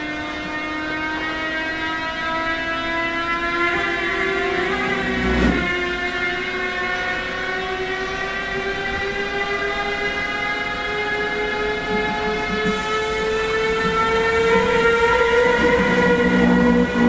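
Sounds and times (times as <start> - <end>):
electric locomotive whine: 0.0 - 17.0.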